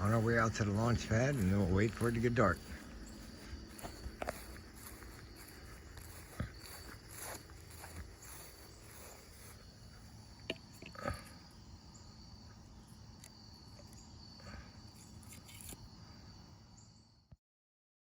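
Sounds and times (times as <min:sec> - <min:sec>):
crickets calling: 0:00.0 - 0:17.3.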